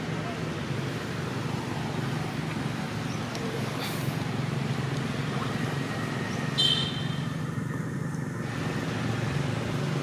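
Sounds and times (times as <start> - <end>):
distant road traffic hum: 0.0 - 10.0.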